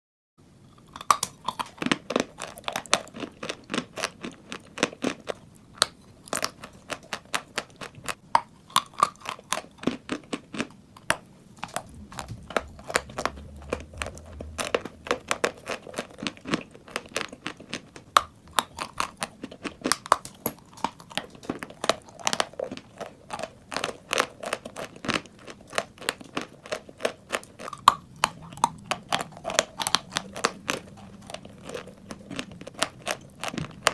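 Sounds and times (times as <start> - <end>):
chewing chalk crunches: 0.7 - 33.9.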